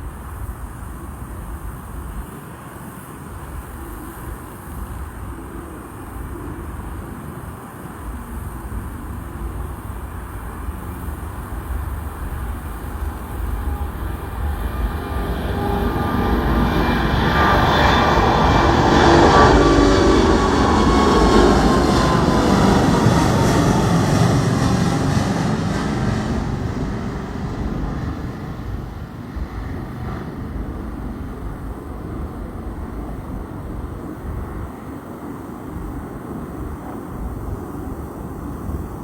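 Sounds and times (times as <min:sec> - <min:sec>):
jet airliner taking off: 0:00.0 - 0:39.0.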